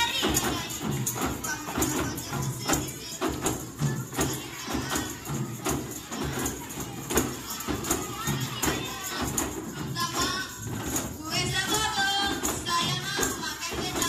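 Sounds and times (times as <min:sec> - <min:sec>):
frame drums beaten in rhythm: 0:00.0 - 0:14.0.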